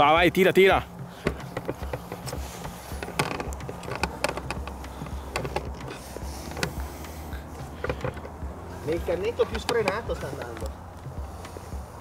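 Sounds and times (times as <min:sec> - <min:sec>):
low steady hum: 0:00.7 - 0:12.0.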